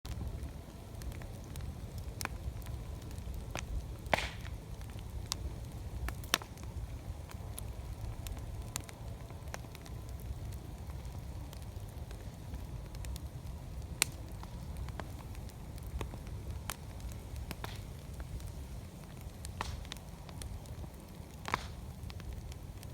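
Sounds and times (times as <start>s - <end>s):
campfire crackling and popping: 0.1s - 22.9s.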